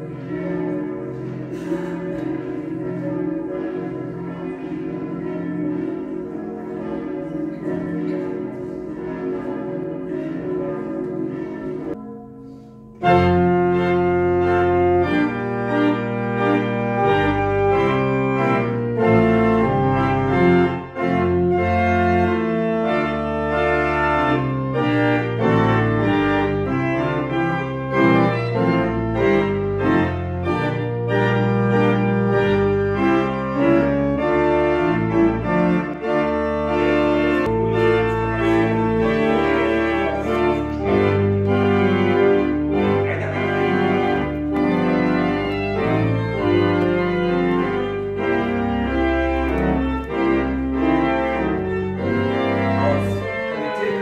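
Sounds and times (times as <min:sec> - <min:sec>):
church bells ringing: 0:00.0 - 0:54.0
pipe organ playing chords: 0:00.0 - 0:54.0.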